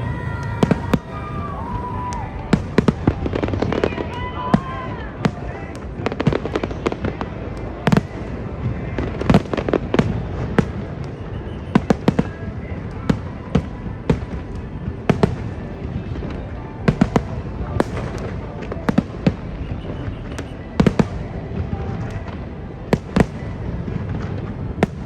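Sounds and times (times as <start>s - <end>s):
fireworks bangs: 0.0s - 25.0s
low fireworks rumble: 0.0s - 25.0s.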